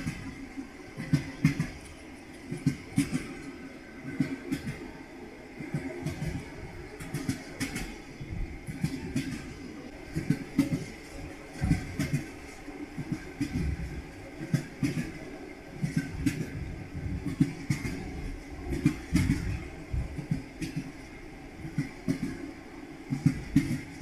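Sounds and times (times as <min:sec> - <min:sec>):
train wheels clacking over joints: 0:00.0 - 0:05.0, 0:05.6 - 0:22.5, 0:23.1 - 0:24.0.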